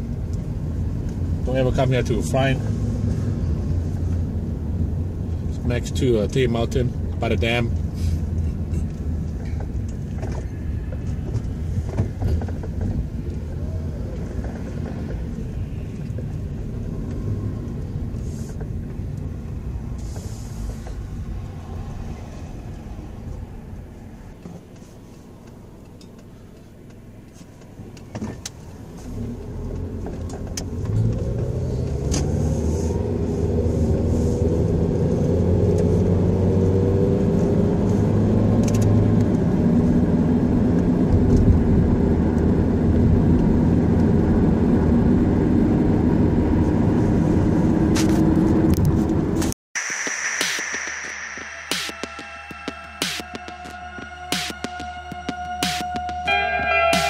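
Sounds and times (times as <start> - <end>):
car engine accelerating: 0.0 - 49.5
road noise inside car: 0.0 - 49.6, 52.3 - 57.0.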